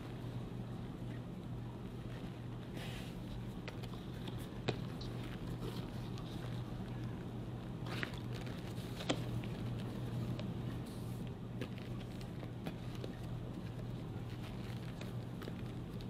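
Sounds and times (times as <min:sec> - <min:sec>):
steady low hum: 0:00.0 - 0:16.0
cloth rustling: 0:01.8 - 0:16.0.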